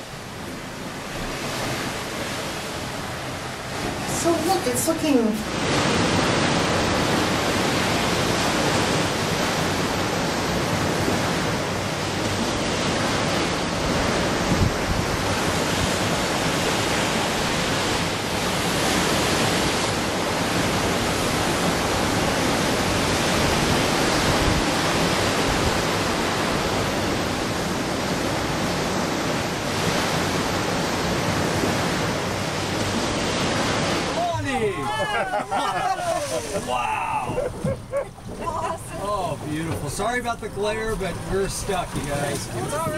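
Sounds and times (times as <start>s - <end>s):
ocean surf: 0.0s - 42.9s
sea wind: 0.0s - 42.9s.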